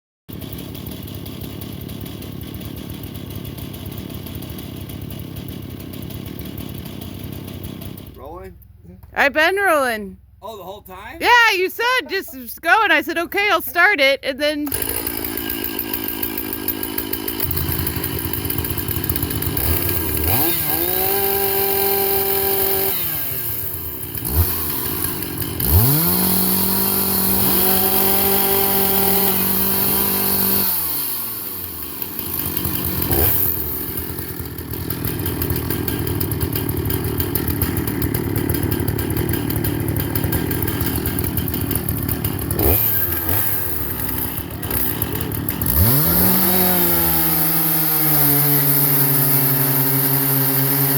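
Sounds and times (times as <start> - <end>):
chainsaw revving: 0.3 - 8.8, 11.2 - 50.9.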